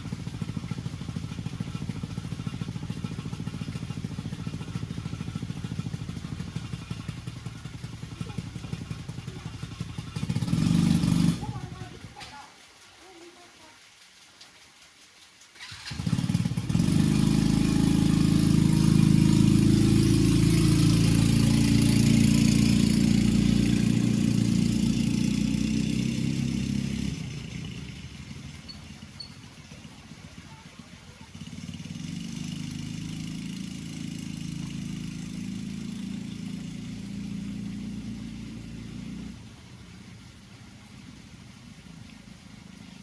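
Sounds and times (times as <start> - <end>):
rain hissing: 0.0 - 43.0
vehicle engine running: 0.0 - 43.0.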